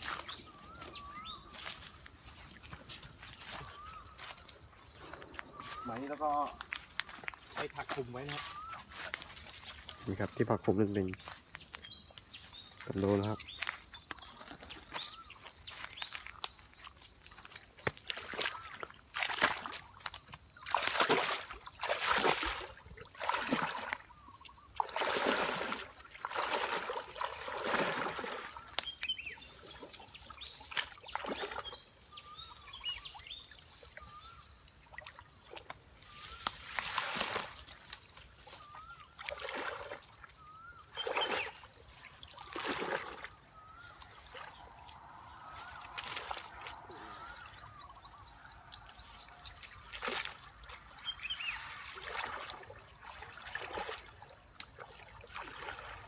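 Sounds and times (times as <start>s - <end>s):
high insect drone: 0.0s - 56.0s
water splashing and sloshing: 0.0s - 56.0s.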